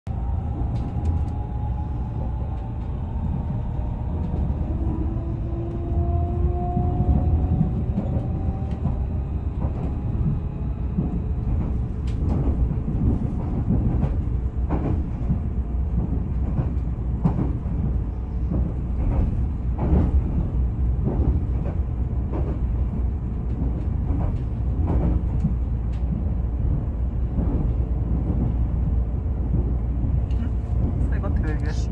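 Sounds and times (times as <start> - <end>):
train wheels rumbling on track: 0.1 - 31.9.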